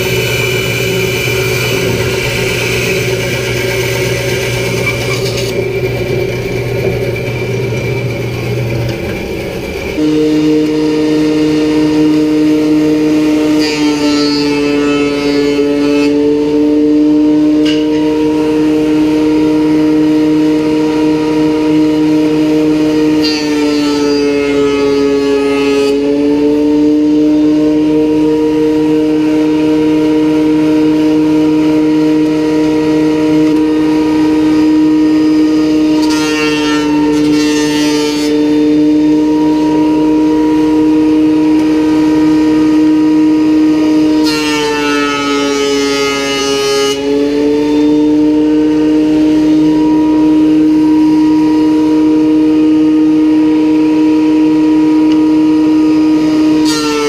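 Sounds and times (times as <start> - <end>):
planer cutting wood: 0.0 - 57.0
planer motor whining: 0.0 - 57.0.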